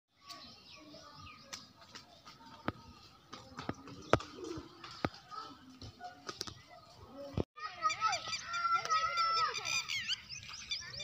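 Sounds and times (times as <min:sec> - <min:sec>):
birds calling: 0:00.1 - 0:11.0.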